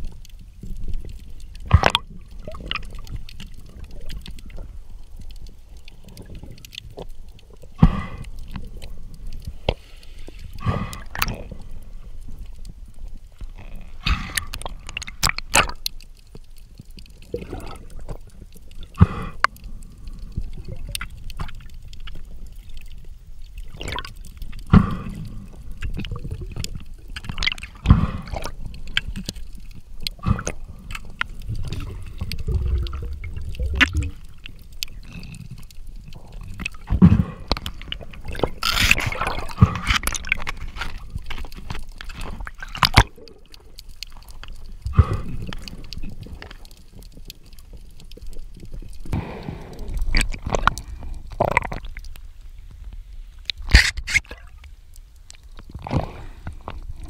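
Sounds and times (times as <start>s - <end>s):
sharp underwater clicks and knocks: 0.0s - 11.6s, 12.2s - 23.0s, 23.6s - 52.2s, 53.4s - 57.0s
low underwater rumble and gurgling: 0.0s - 57.0s.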